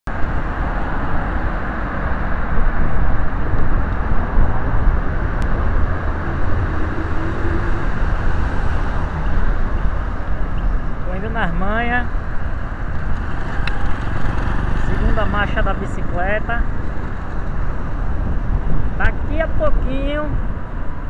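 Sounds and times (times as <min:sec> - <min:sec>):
road noise: 0:00.0 - 0:21.0
wind on microphone: 0:00.1 - 0:21.0.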